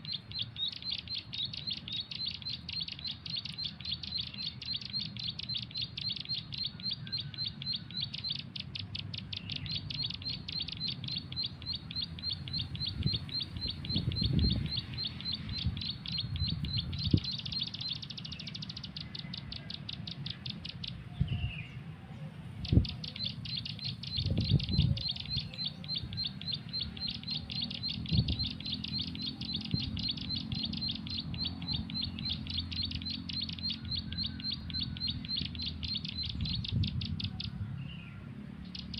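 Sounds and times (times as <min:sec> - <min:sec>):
bird chirps from phone: 0:00.0 - 0:21.7, 0:22.6 - 0:37.6, 0:38.7 - 0:38.9.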